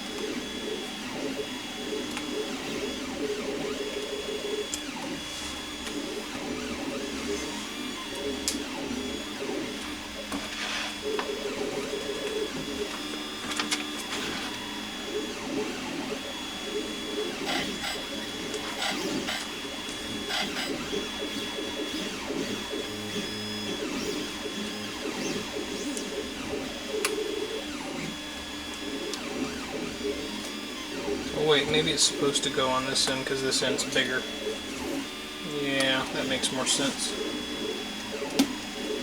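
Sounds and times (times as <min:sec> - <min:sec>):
busy mechanical background noise: 0:00.0 - 0:39.0.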